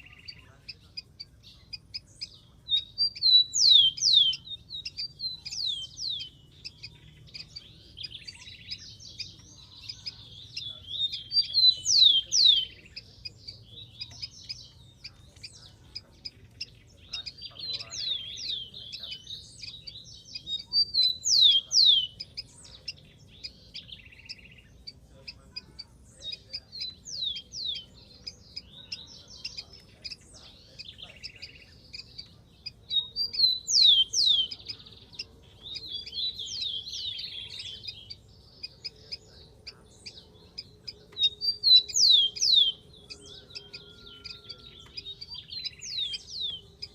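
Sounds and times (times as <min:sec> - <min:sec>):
sparrow singing: 0:00.0 - 0:46.9.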